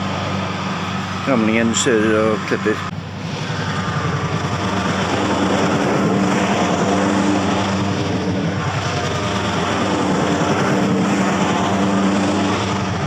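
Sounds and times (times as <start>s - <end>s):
ride-on lawn mower engine: 0.0s - 13.0s.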